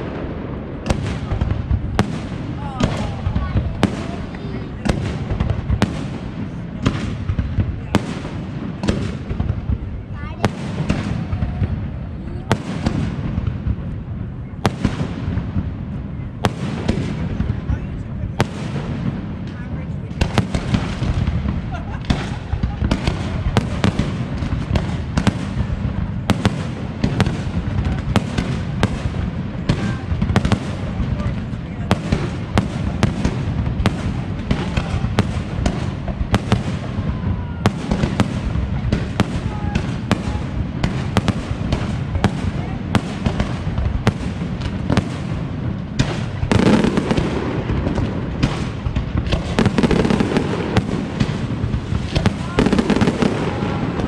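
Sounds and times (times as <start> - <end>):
sharp firework bangs: 0.0 - 17.8, 18.4 - 54.0
fireworks bursting: 0.0 - 54.0.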